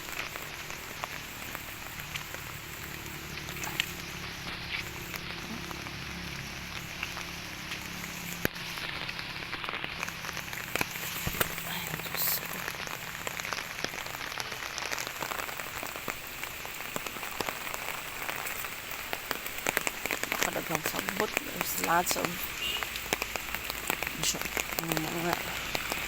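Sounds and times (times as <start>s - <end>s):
rain falling: 0.0s - 26.0s
raindrops striking close by: 0.0s - 26.0s.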